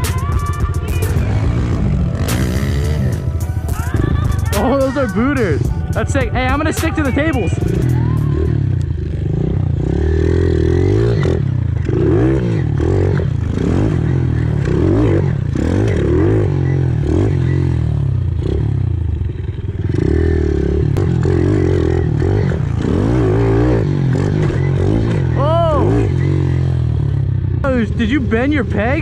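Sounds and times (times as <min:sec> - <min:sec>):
pit bike engines revving: 0:00.0 - 0:29.0.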